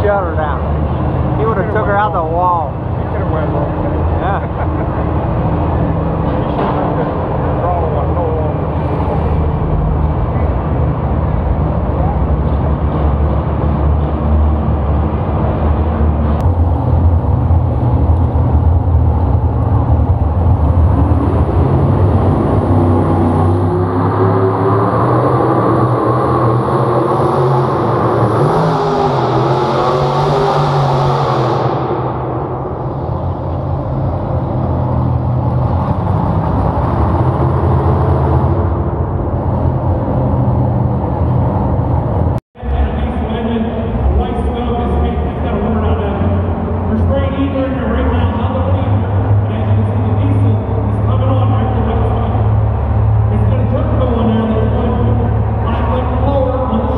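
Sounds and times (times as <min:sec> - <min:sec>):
heavy vehicle engine under load: 0:00.0 - 0:56.9.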